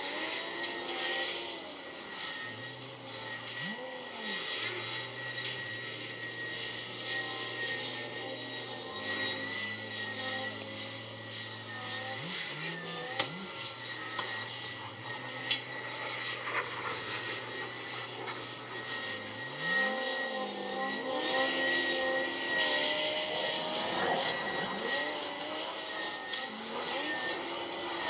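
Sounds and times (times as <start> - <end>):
high whine: 0.0 - 28.0.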